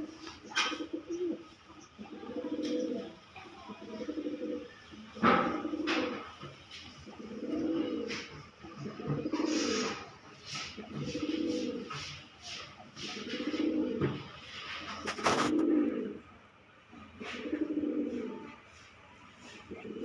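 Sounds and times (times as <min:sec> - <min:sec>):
pigeon cooing: 0:00.0 - 0:20.0.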